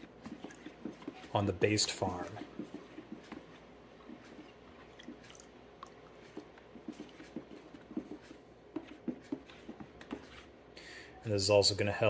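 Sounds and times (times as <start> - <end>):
faint wet swishing: 0.0 - 10.6.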